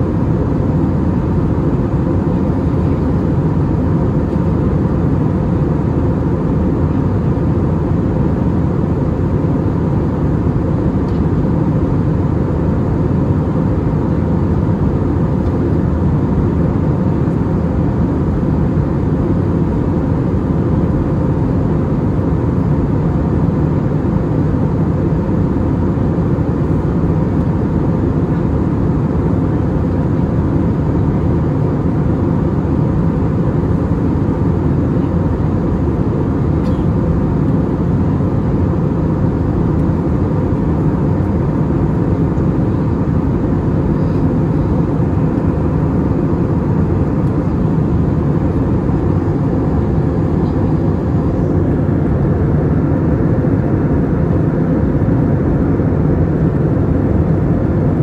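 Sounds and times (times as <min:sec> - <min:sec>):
aircraft cabin engine noise: 0:00.0 - 0:58.0.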